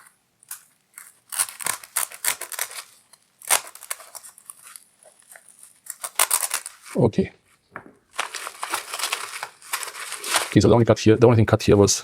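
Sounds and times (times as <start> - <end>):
label rustling: 0.0 - 11.1.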